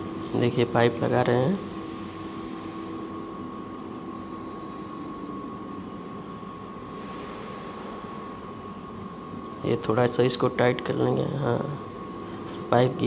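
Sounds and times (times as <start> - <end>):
mechanical hum with high whine: 0.0 - 13.0.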